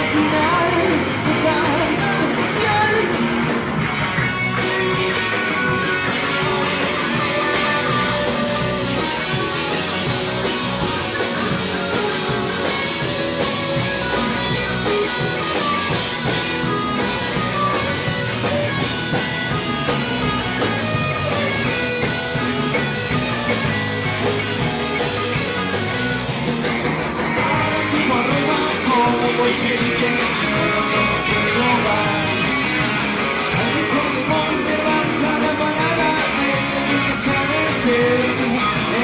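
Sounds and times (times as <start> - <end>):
drum kit: 0.0 - 39.0
electric guitar: 0.0 - 39.0.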